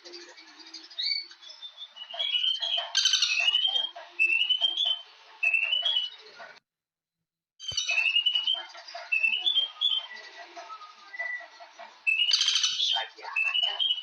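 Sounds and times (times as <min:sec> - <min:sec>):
bird chirping: 0:00.0 - 0:06.5, 0:07.6 - 0:14.0.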